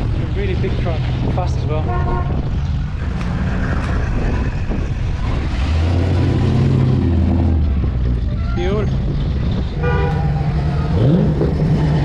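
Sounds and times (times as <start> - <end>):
cars and trucks driving past: 0.0 - 12.0
deep vehicle engine approaching: 0.0 - 12.0.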